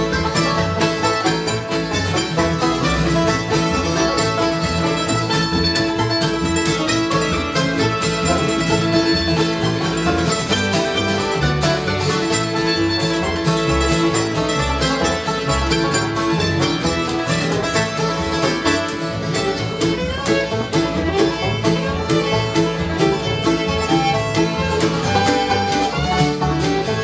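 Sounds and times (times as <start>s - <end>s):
rolling banjo: 0.0s - 27.0s
string band playing: 0.0s - 27.0s.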